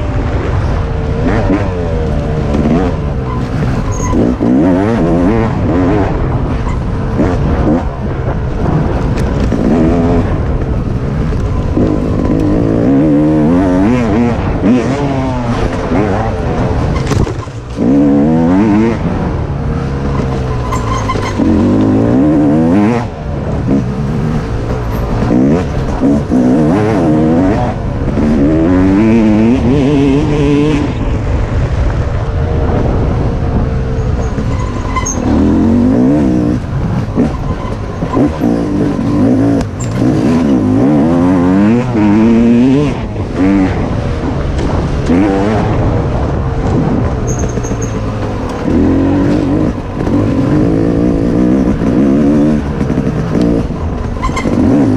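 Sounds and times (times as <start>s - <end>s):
dirt bike engine revving: 0.0s - 32.0s, 32.6s - 54.9s.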